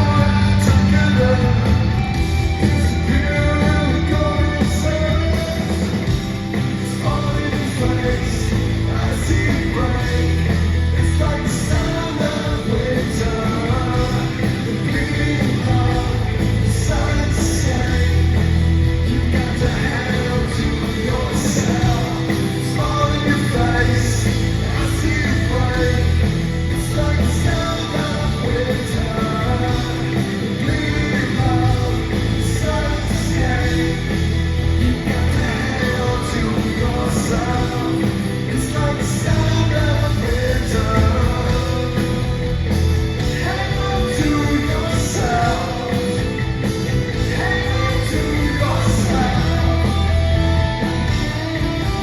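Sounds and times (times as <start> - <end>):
rock band playing live: 0.0 - 52.0.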